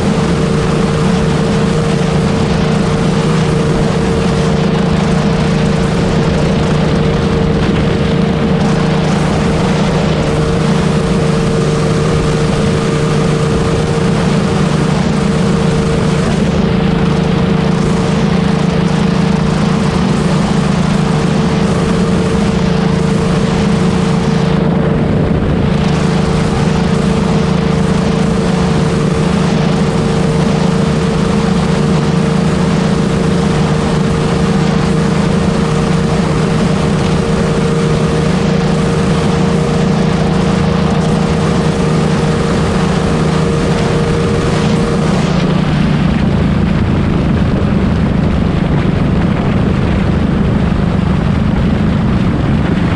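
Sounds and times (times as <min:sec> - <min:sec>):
motorcycle engine cruising: 0:00.0 - 0:52.9
wind rushing over microphone: 0:00.0 - 0:52.9.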